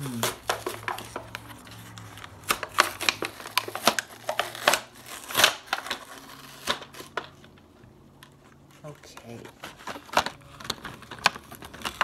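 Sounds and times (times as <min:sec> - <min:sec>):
cardboard and plastic packaging ripping: 0:00.0 - 0:07.6, 0:08.9 - 0:12.0.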